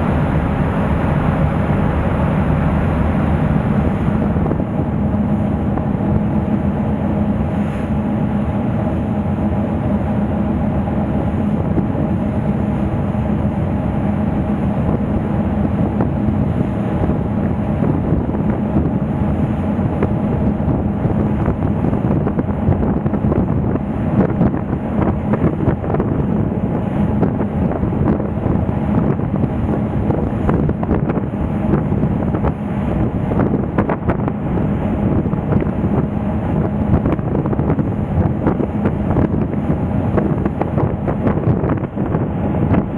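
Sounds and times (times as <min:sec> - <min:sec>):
ferry engine drone: 0:00.0 - 0:42.9
wind buffeting microphone: 0:00.0 - 0:42.9.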